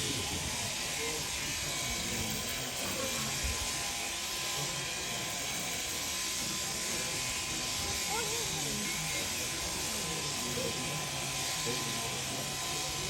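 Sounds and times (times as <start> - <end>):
electric shearing handpiece running: 0.0 - 13.0.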